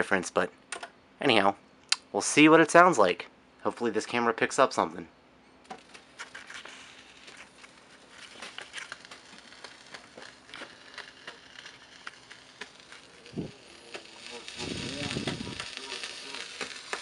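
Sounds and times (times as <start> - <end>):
record surface noise with crackles: 0.0 - 17.0.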